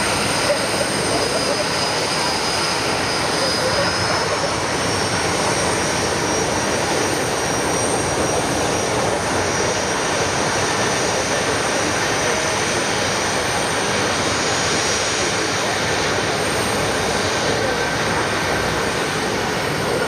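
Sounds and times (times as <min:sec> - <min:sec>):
jet engines roaring: 0:00.0 - 0:20.0
thin high engine whine: 0:00.0 - 0:20.0.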